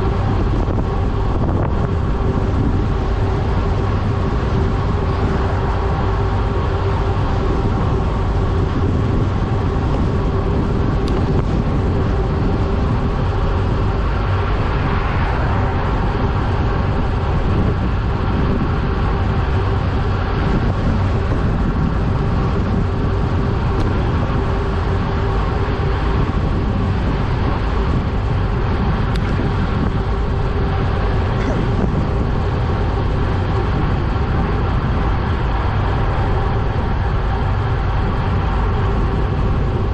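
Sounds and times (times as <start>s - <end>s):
steady hum: 0.0s - 39.9s
tyre road noise: 0.0s - 39.9s
wind buffeting microphone: 0.0s - 39.9s
wind rushing: 0.0s - 39.9s.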